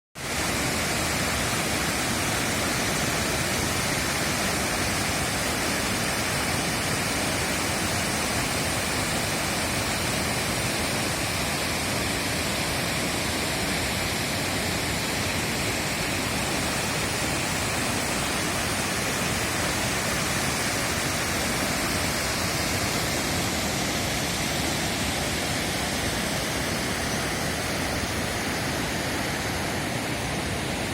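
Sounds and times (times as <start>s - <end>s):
waterfall rushing: 0.2s - 30.9s.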